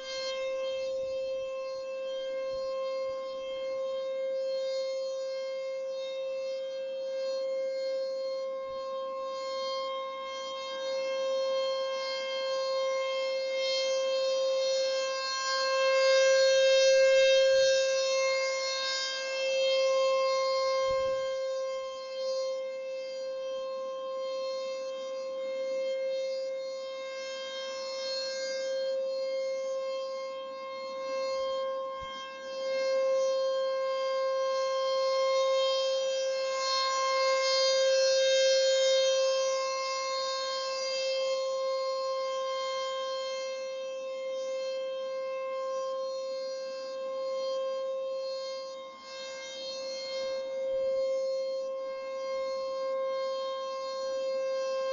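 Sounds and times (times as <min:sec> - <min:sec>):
warning siren steady tone: 0:00.0 - 0:54.9.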